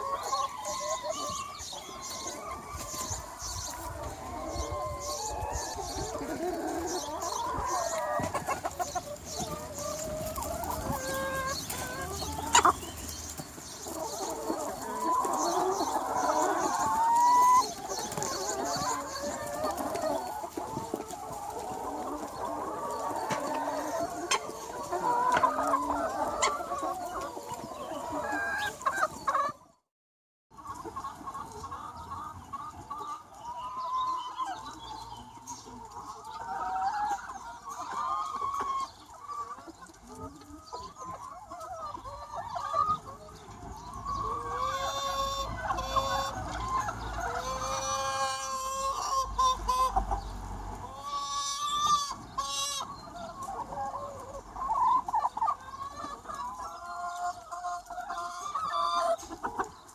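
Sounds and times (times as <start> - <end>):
chickens clucking and calling: 0.0 - 29.9, 30.5 - 59.9.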